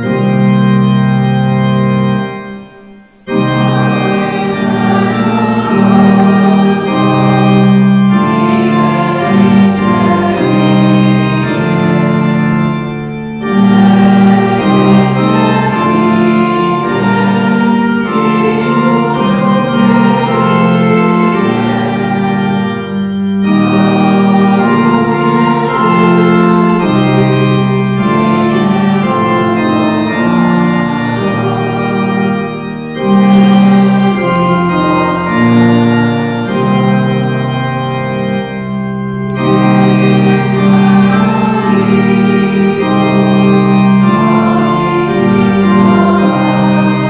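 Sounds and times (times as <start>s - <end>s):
church organ playing hymn: 0.0s - 47.0s.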